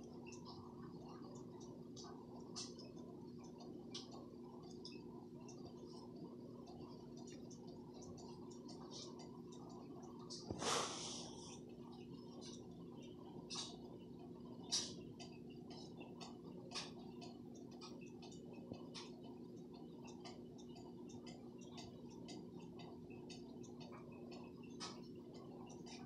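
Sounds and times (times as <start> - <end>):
faint clicks and ticks: 0.0 - 10.6, 11.2 - 26.0.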